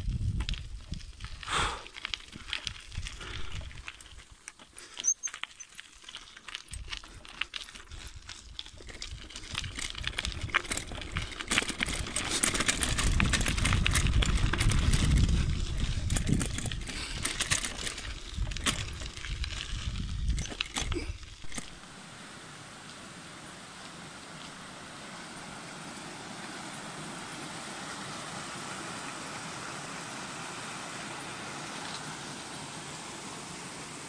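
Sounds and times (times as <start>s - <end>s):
bike tyres crunching on gravel: 0.0s - 34.0s.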